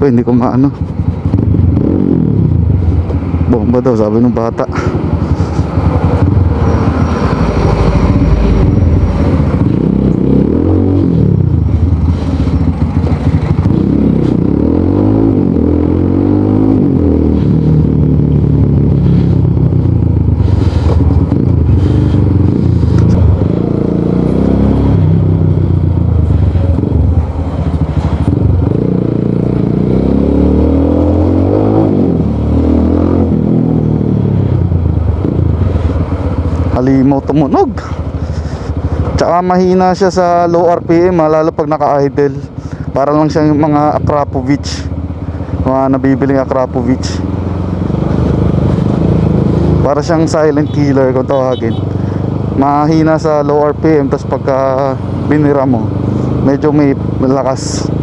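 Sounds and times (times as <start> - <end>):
motorcycle exhaust revving: 0.0 - 58.0.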